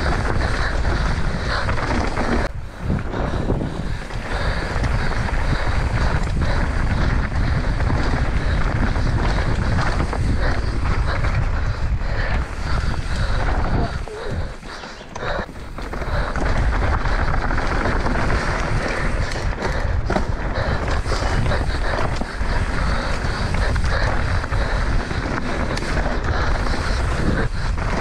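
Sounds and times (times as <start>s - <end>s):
bike chain and suspension rattling: 0.0s - 28.0s
tyres rumbling over dirt: 0.0s - 28.0s
wind buffeting microphone: 0.0s - 28.0s.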